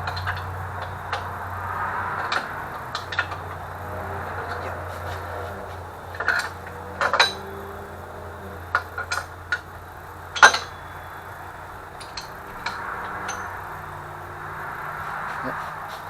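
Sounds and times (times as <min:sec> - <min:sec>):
metal tools clinking and knocking: 0:00.0 - 0:16.0.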